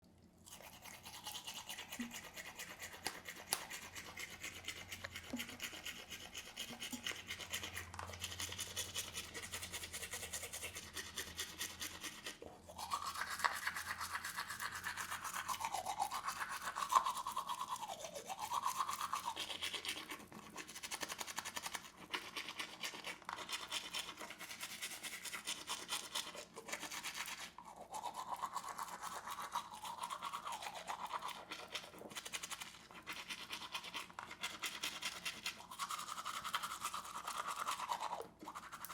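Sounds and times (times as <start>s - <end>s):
toothbrush scrubbing teeth: 0.1s - 38.9s.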